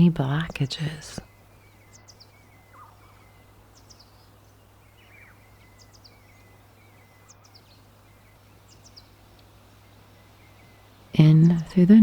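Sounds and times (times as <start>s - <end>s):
low hum and hiss: 0.0s - 12.0s
small birds chirping: 0.0s - 12.0s.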